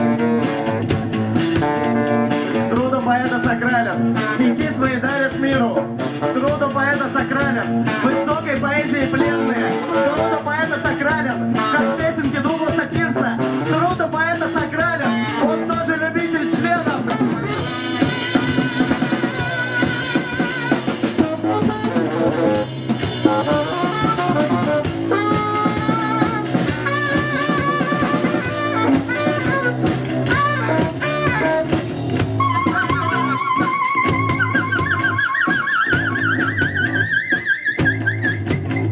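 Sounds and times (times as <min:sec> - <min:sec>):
drums: 0:00.0 - 0:38.9
electric guitar: 0:00.0 - 0:38.9
wavering lead line: 0:00.0 - 0:38.9.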